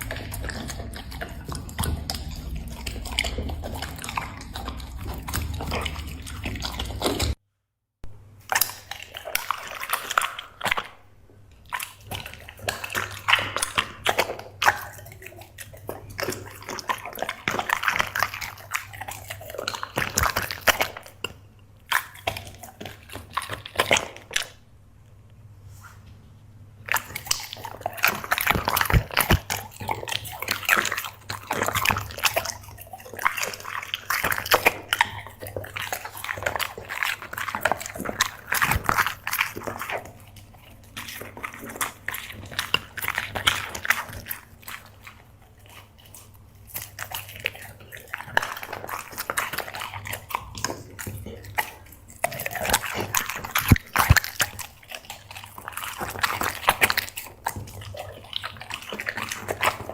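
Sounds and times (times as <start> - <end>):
dog chewing and smacking food: 0.0 - 7.4, 8.4 - 24.6, 26.8 - 59.9.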